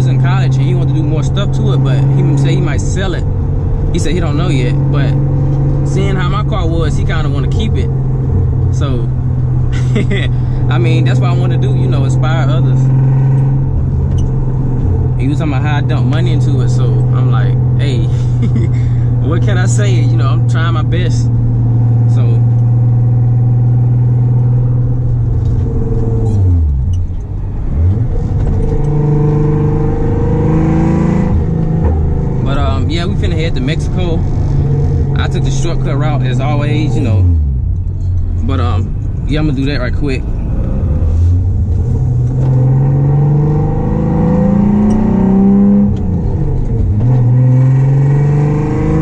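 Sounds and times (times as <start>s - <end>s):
car engine driving: 0.0s - 49.0s.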